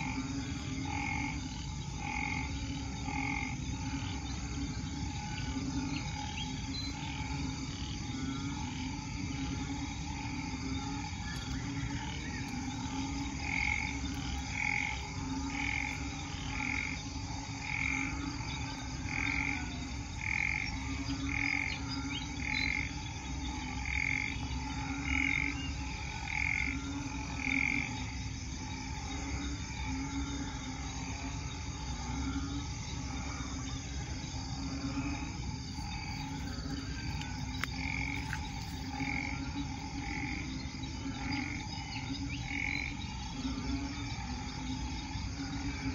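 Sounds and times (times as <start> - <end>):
higher frog call: 0.0 - 28.2, 28.9 - 45.9
low pulsing frog calls: 0.0 - 45.9.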